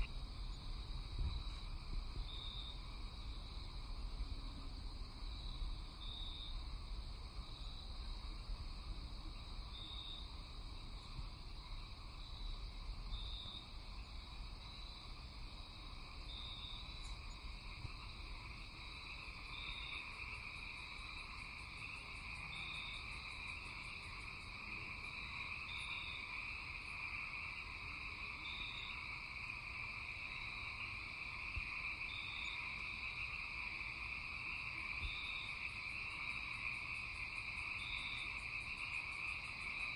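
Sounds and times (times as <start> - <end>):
steady high insect trill: 0.0 - 39.9.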